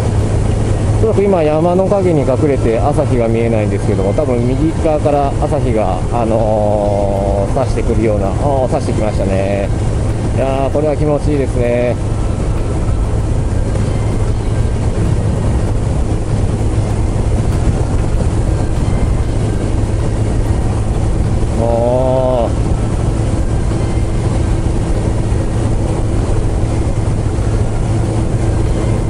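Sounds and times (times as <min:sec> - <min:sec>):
motorcycle engine cruising: 0:00.0 - 0:29.0
wind rushing over microphone: 0:00.0 - 0:29.0.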